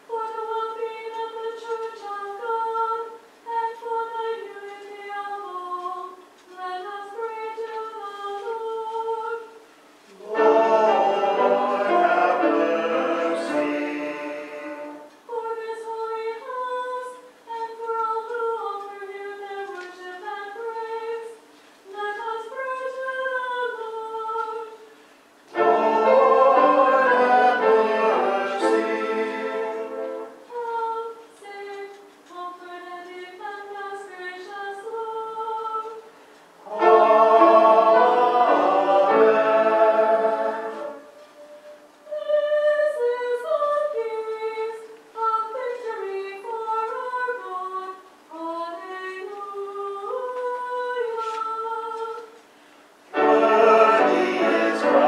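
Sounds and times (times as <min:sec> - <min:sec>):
person singing a hymn: 0:00.0 - 0:24.9, 0:25.5 - 0:52.4, 0:53.1 - 0:55.0
fuller choral passage: 0:00.0 - 0:31.8, 0:32.6 - 0:52.4, 0:53.1 - 0:55.0.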